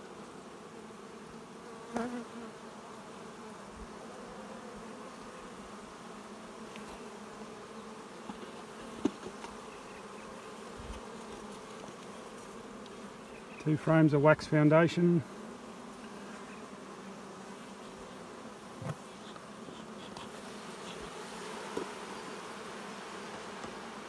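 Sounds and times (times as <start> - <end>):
honey bees humming: 0.0 - 24.0.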